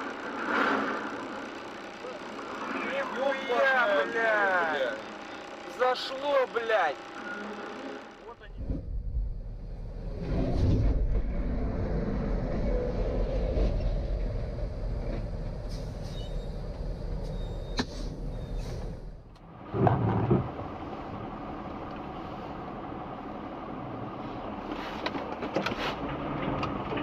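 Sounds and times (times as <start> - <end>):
vehicle and road noise: 0.0 - 27.0.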